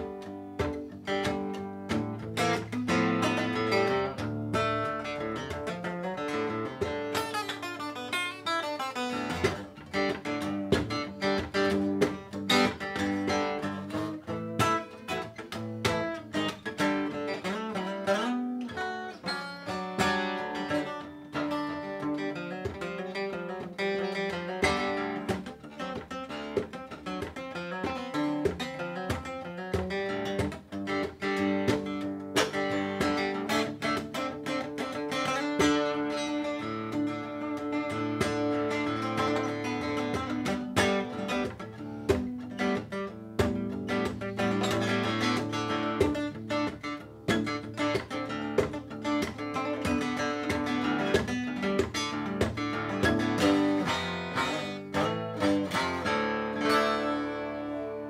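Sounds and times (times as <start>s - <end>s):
acoustic guitar strummed: 0.0s - 58.0s.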